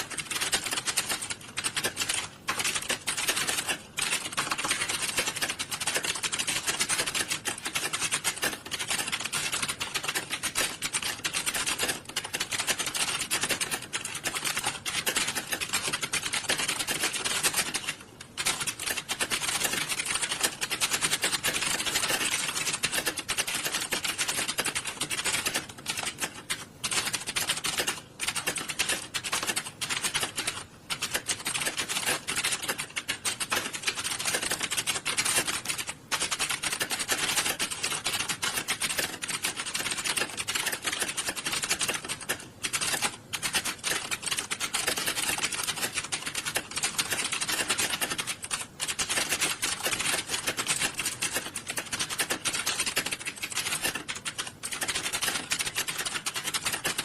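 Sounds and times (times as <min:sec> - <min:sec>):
keyboards clattering: 0:00.0 - 0:57.0.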